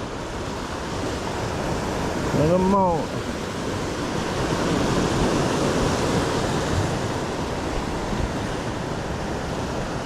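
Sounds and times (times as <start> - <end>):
ocean surf washing on shore: 0.0 - 10.0.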